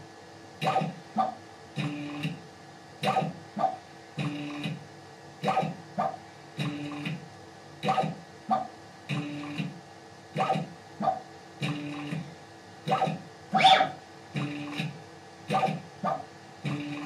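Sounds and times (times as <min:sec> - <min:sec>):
machine motor hum: 0:00.0 - 0:17.0.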